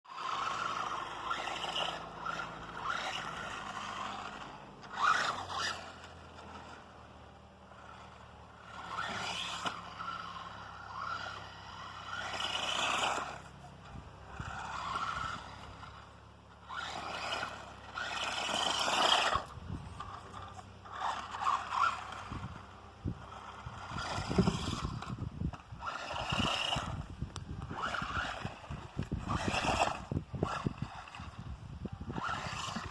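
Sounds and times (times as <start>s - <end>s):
toy truck motor whining: 0.1s - 32.9s
tyres scraping over ground: 0.1s - 32.9s.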